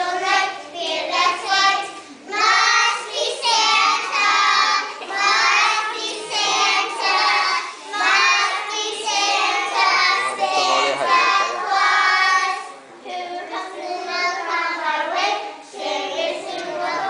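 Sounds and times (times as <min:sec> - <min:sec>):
children singing: 0:00.0 - 0:17.0.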